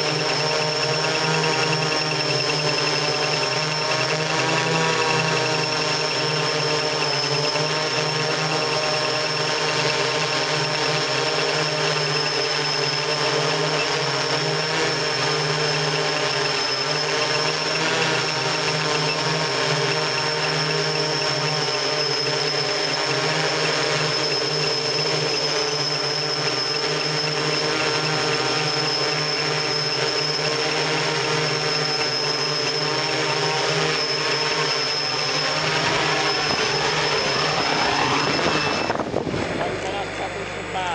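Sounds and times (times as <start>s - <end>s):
drone motors and propellers humming: 0.0s - 40.9s.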